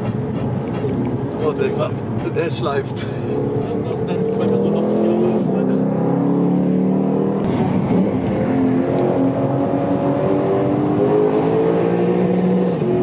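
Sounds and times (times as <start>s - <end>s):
car engine accelerating hard: 0.9s - 13.0s.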